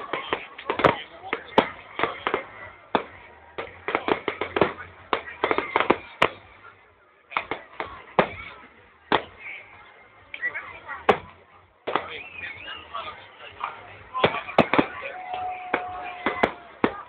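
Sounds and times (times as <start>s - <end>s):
fireworks bangs and crackles: 0.0s - 9.8s, 10.4s - 17.0s.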